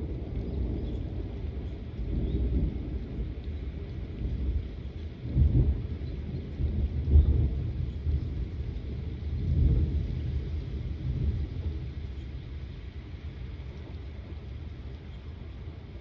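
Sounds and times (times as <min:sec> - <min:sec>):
rain hiss: 0:00.0 - 0:16.0
thunder rumbling: 0:00.0 - 0:16.0.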